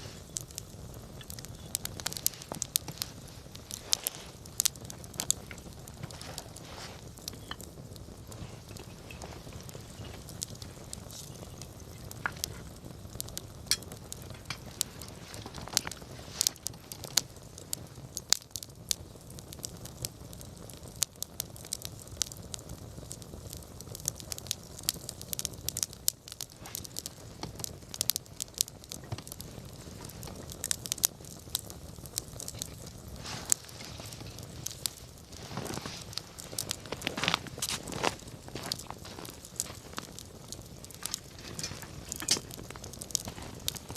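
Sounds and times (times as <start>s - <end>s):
campfire crackling and popping: 0.0s - 43.9s
low rush of flame: 0.0s - 43.9s.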